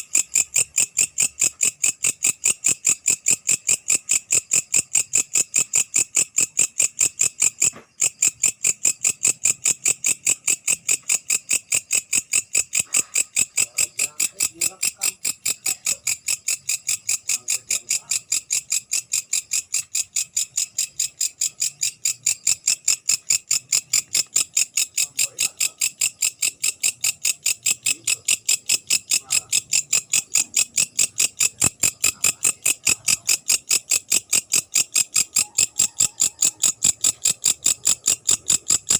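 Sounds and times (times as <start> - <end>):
grasshopper chirping: 0.0 - 38.9.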